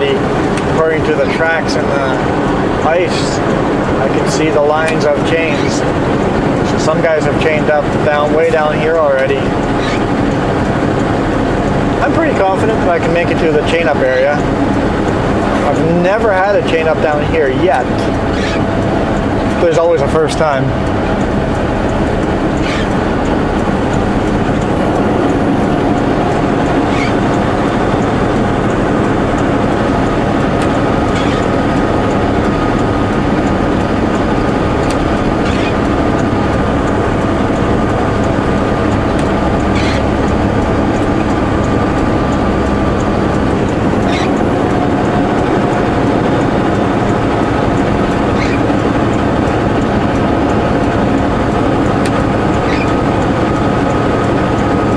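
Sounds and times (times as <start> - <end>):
truck engine and road noise: 0.0 - 54.9.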